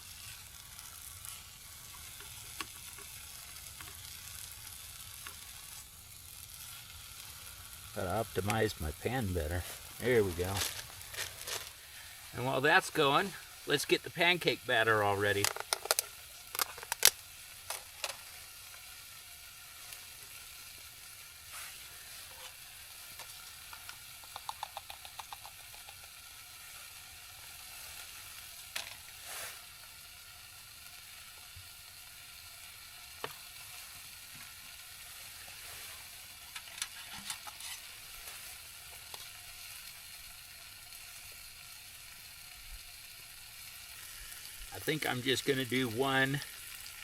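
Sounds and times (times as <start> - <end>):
bacon sizzling in a frying pan: 0.0 - 47.0.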